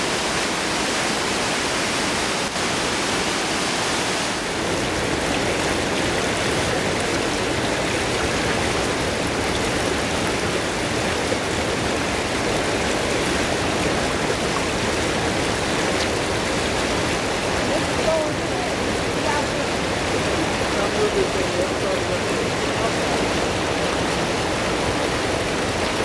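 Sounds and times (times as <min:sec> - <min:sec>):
water rushing through a channel: 0:00.0 - 0:26.0.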